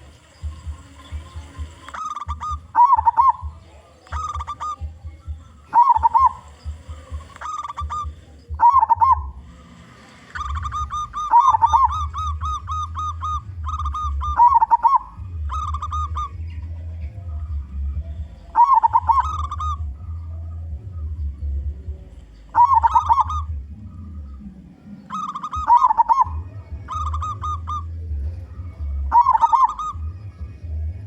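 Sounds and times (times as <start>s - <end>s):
dove cooing: 0.0s - 31.0s
steady low rumble: 0.0s - 31.0s.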